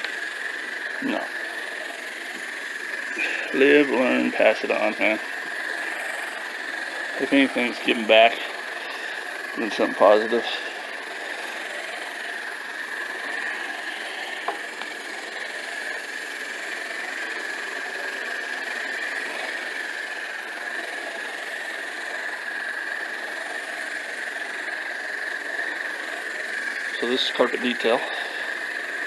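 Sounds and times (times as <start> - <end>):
carpet cleaner motor whining: 0.0 - 29.0.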